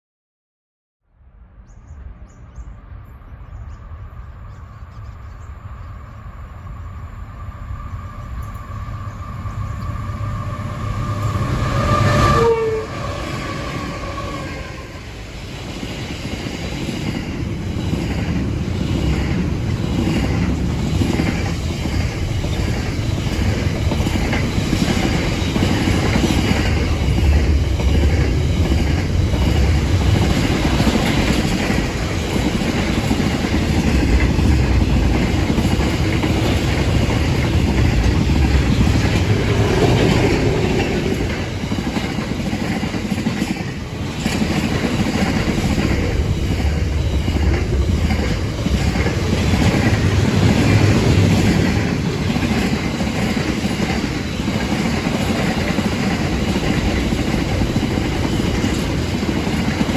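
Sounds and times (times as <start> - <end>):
freight train rumbling past: 1.4 - 59.9.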